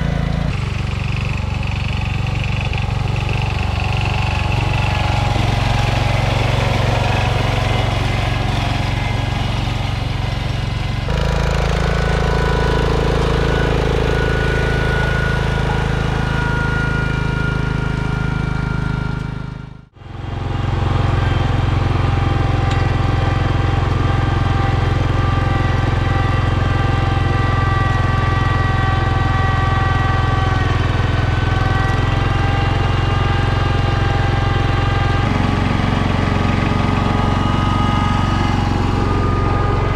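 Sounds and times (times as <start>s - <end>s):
garden tractor engines running: 0.0s - 39.9s.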